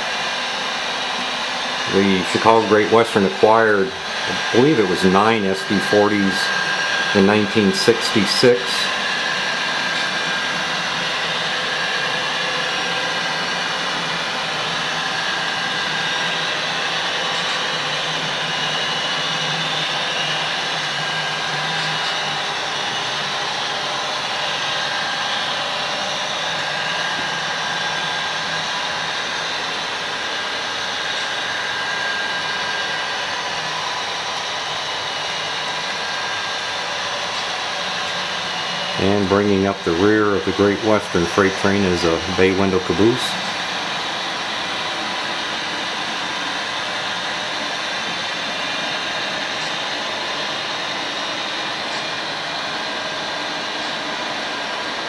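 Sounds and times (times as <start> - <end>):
model train whirring hum: 0.0 - 55.0.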